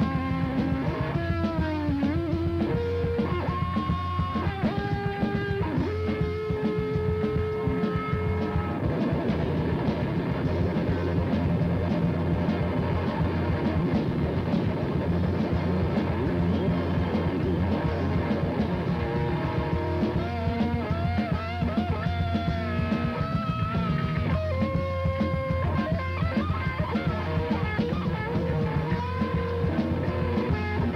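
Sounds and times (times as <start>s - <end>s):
guitar lead with bent notes: 0.0s - 30.9s
heavy metal band playing: 0.0s - 30.9s.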